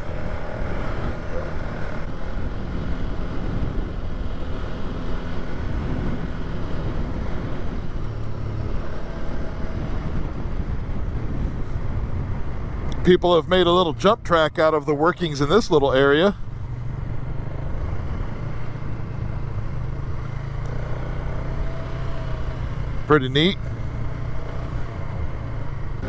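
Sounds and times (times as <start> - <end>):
quad bike engine running: 0.0 - 13.0, 15.4 - 26.0.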